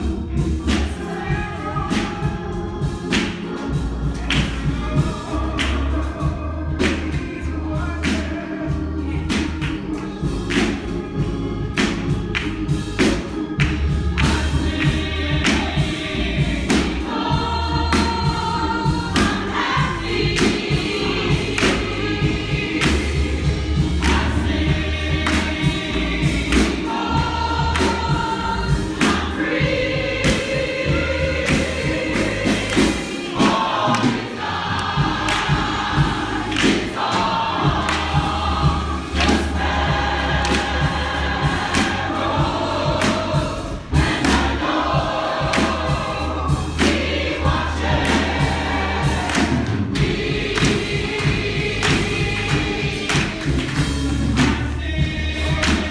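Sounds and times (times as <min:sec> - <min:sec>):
deep bass line: 0:00.0 - 0:33.0, 0:34.6 - 0:55.9
congregation singing gospel song: 0:00.0 - 0:55.9
percussive beat: 0:00.0 - 0:55.9.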